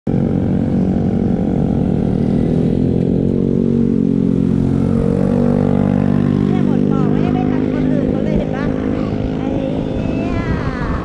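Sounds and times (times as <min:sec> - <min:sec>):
wind and road noise: 0:00.1 - 0:11.0.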